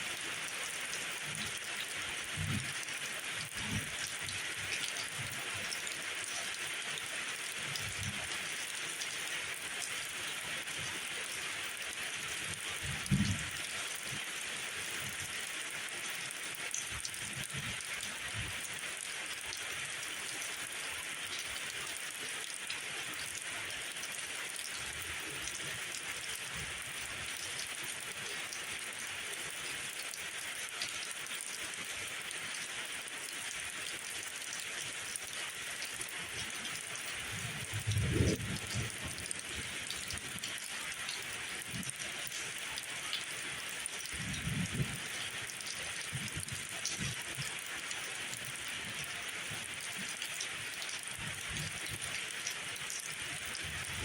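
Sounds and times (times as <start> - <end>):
rain hissing on leaves: 0.0 - 54.0.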